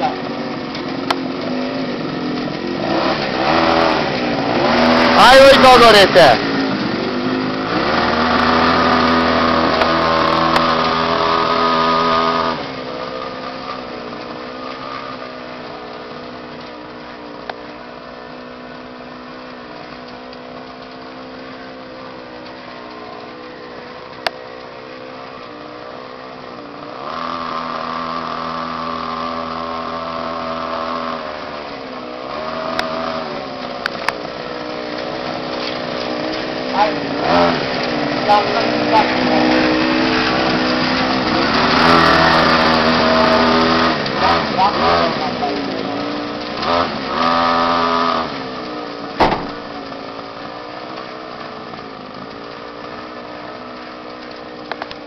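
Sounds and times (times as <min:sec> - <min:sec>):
motorbike engine running: 0:00.0 - 0:55.0.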